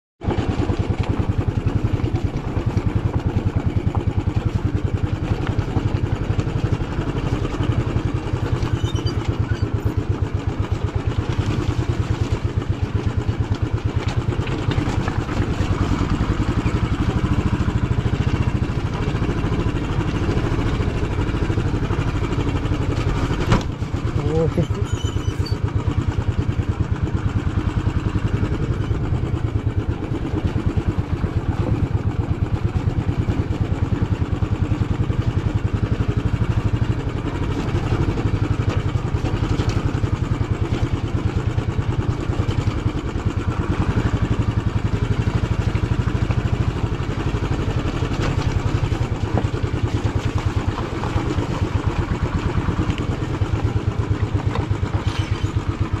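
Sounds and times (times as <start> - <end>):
motorcycle engine running: 0.2 - 56.0.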